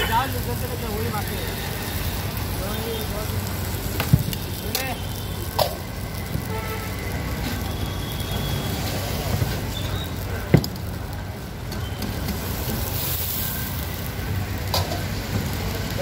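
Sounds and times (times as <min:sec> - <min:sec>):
dosa sizzling on griddle: 0:00.0 - 0:16.0
street traffic rumble: 0:00.0 - 0:16.0.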